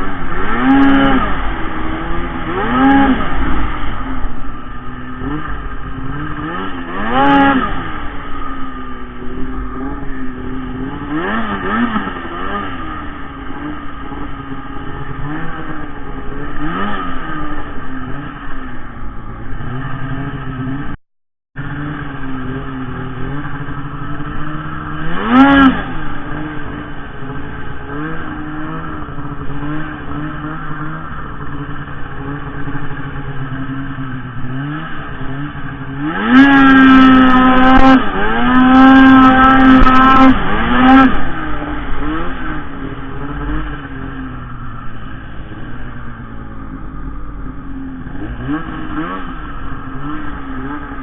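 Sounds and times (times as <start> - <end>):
snowmobile engine revving: 0.0 - 21.0, 21.6 - 51.0.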